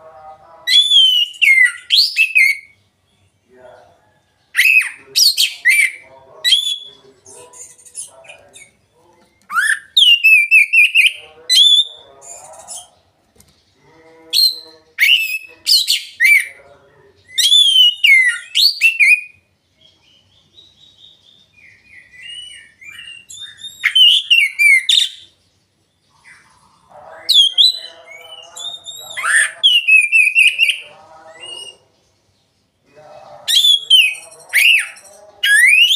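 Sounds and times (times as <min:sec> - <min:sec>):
magpie-robin singing: 0:00.0 - 0:35.9.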